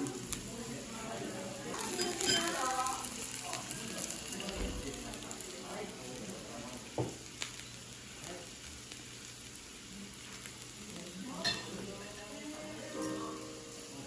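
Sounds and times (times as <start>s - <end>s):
food sizzling on a grill plate: 0.0s - 14.0s.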